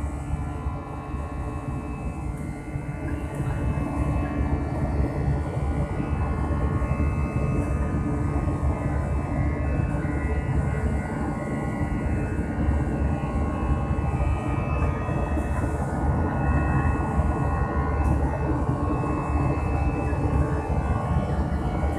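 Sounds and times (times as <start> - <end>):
jet engine rumble in cabin: 0.0 - 21.9.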